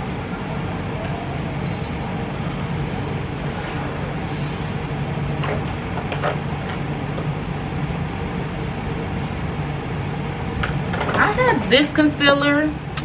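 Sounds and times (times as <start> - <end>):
mechanical hum and whir: 0.0 - 13.0.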